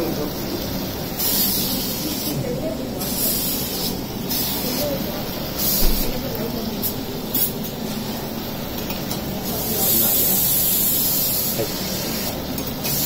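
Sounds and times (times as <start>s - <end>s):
vegetables hissing in pan: 0.0s - 13.0s.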